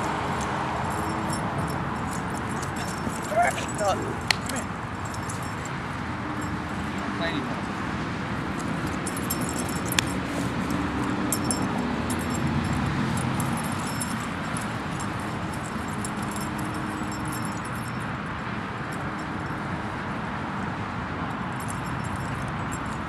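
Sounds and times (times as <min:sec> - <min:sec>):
light metallic jingling: 0:00.0 - 0:20.1, 0:21.2 - 0:23.0
road traffic hum: 0:00.0 - 0:23.0.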